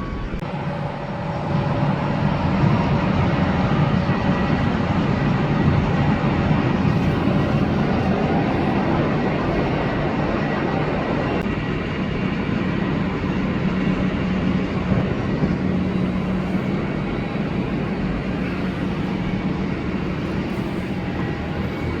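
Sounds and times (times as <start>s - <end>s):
jet airliner rushing roar: 0.0s - 22.0s.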